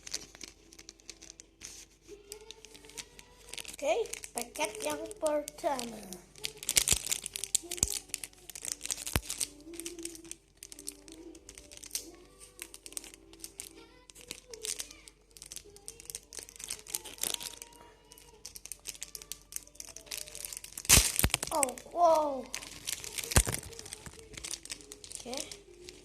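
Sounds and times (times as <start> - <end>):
plastic wrapper crinkling: 0.0 - 26.0
soft background music: 0.0 - 26.0.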